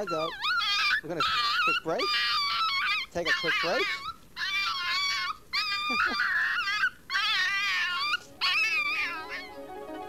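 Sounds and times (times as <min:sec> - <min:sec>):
puppy whining in pain: 0:00.0 - 0:09.6.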